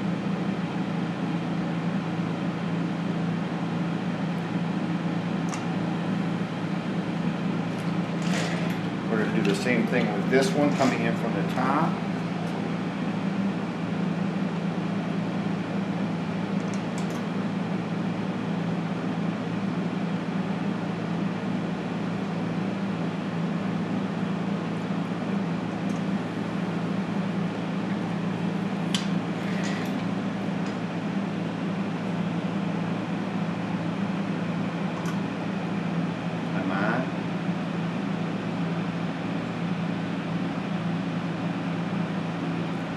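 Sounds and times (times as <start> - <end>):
low electrical hum: 0.0 - 42.9.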